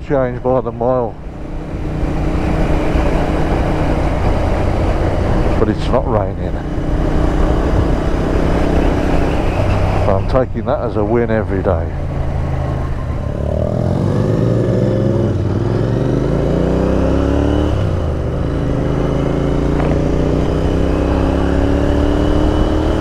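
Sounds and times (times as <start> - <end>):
wind and road noise: 0.0 - 23.0
motorcycle engine accelerating: 0.4 - 23.0.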